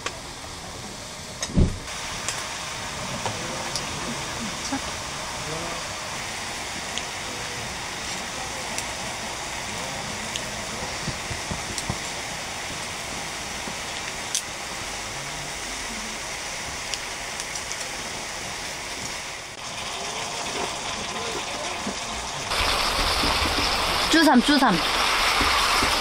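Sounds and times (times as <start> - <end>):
food sizzling in a pan: 0.2 - 26.0.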